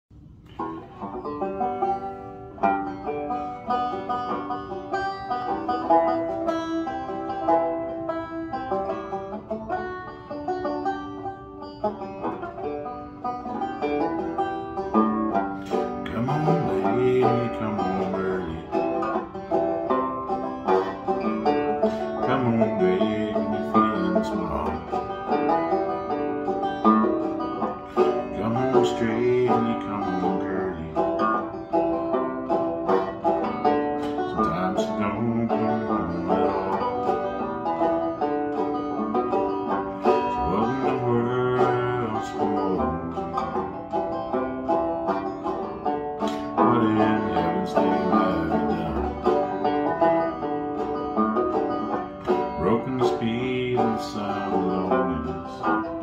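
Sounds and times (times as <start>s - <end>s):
banjo picking country song: 0.1s - 56.0s.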